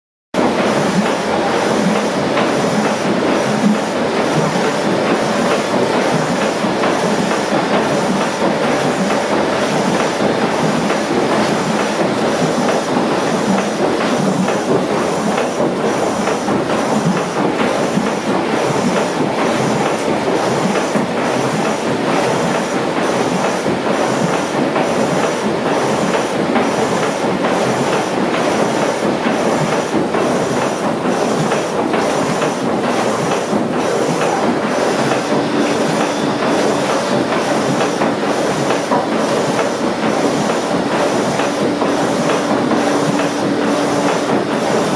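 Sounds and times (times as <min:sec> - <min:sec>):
rhythmic machinery clatter: 0:00.4 - 0:44.9
water churning and splashing: 0:00.4 - 0:44.9.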